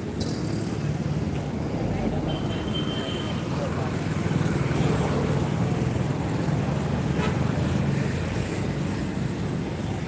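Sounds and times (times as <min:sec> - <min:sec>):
street background rumble: 0:00.0 - 0:10.0.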